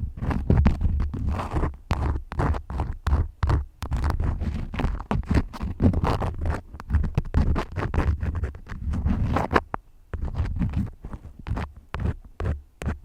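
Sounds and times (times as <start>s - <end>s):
wax crayons scratching: 0.2s - 13.0s.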